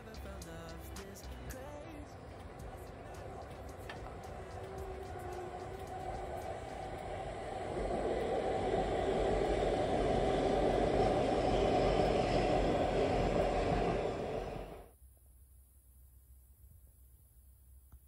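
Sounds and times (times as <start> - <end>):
passenger train passing: 0.0 - 14.9.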